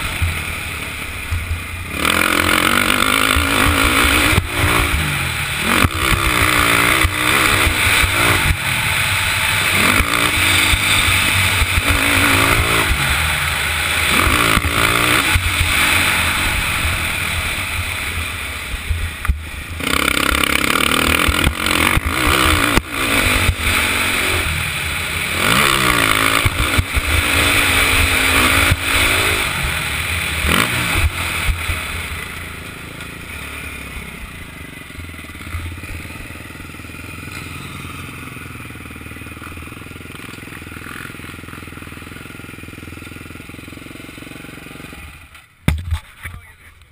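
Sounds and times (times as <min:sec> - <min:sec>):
motocross engine revving: 0:00.0 - 0:46.9.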